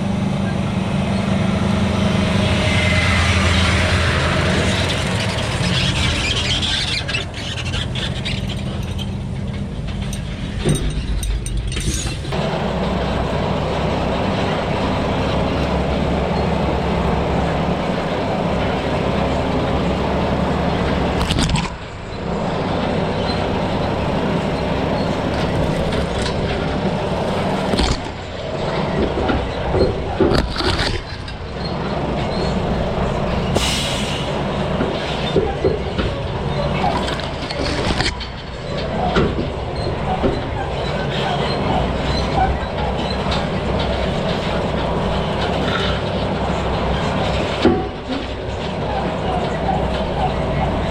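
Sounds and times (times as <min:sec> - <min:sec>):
road and cab noise: 0:00.0 - 0:50.9
truck diesel engine running: 0:00.0 - 0:50.9.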